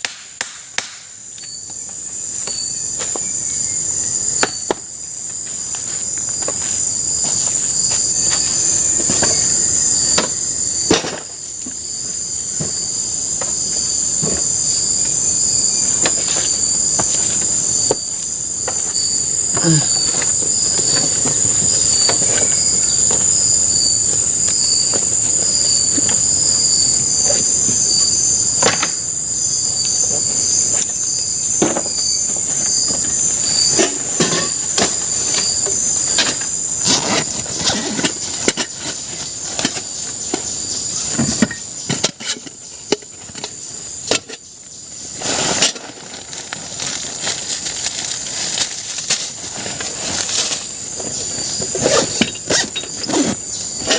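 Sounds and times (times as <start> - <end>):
forest insects shrill drone: 0.0 - 53.9.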